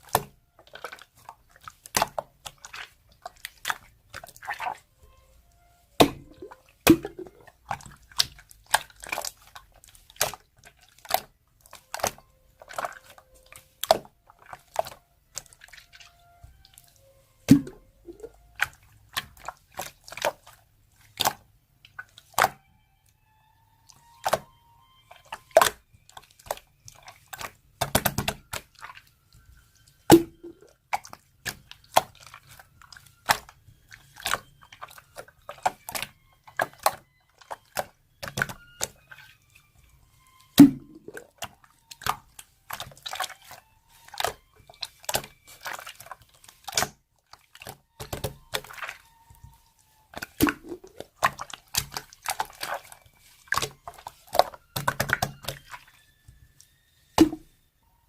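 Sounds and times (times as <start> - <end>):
wet sticky clicks and squishes: 0.0 - 57.6.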